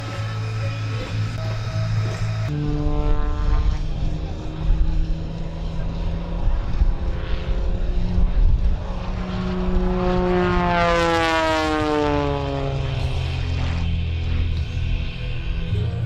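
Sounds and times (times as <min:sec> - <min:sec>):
propeller plane flying past: 0:00.0 - 0:16.0.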